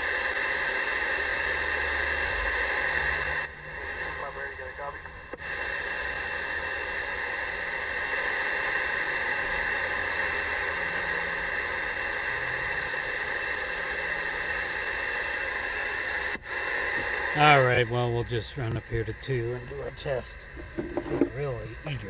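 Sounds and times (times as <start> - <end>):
radio static hissing: 0.0 - 22.0
steady whine: 0.0 - 22.0.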